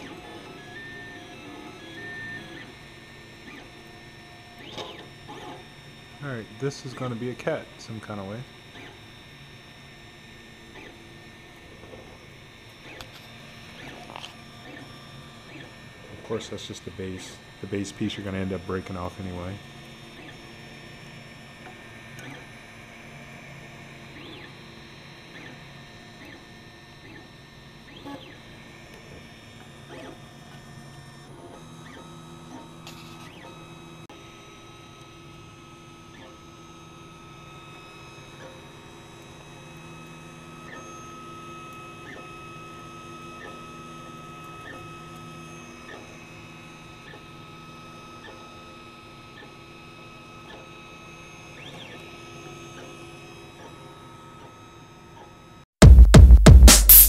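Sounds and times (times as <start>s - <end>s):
printer stepper motors whining: 0.0s - 55.6s.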